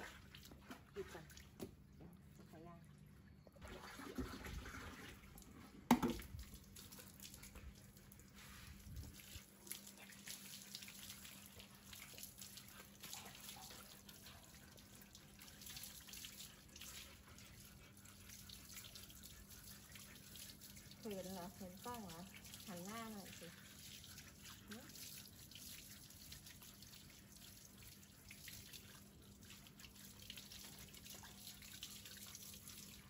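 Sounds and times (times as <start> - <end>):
hose water splattering: 0.0 - 1.8, 3.6 - 33.0.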